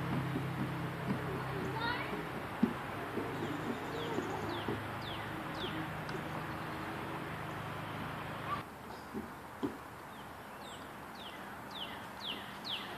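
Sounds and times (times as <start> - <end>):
birds chirping: 0.0 - 12.9
steady background noise: 0.0 - 12.9.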